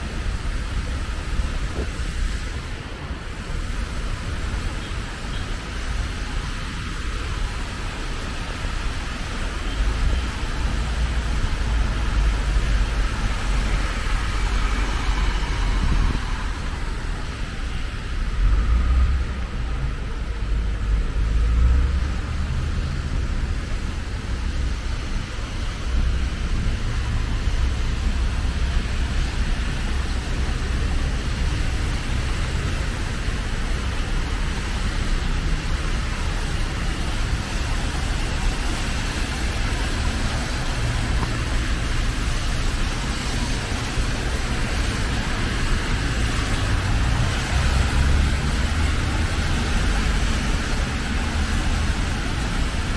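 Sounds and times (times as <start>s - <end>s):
road traffic rumble: 0.0s - 52.9s.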